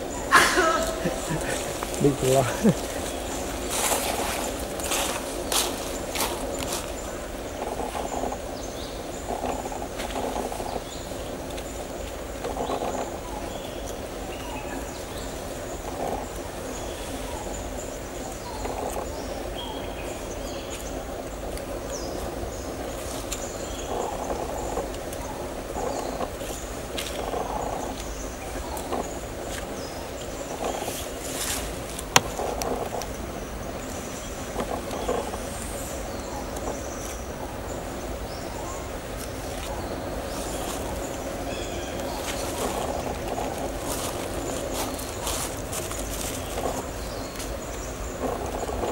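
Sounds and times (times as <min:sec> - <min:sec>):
birds chirping: 0:00.0 - 0:48.9
low hiss and rumble: 0:00.0 - 0:48.9.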